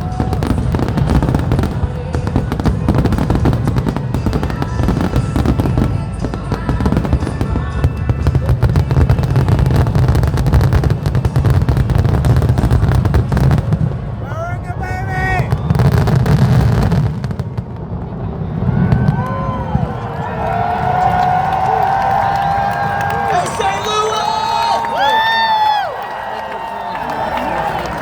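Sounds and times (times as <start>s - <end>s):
music playing: 0.0s - 18.0s, 19.3s - 26.4s
deep fireworks booms: 0.0s - 23.8s
fireworks popping and crackling: 0.0s - 26.2s.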